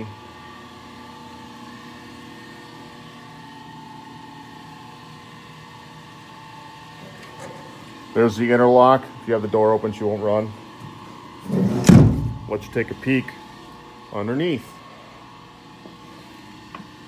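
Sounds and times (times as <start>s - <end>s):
workshop hum and hiss: 0.0s - 17.0s.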